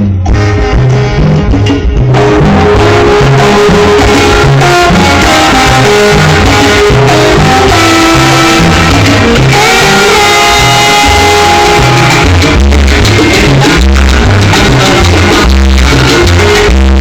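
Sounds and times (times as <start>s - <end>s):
loud salsa music: 0.0s - 17.0s.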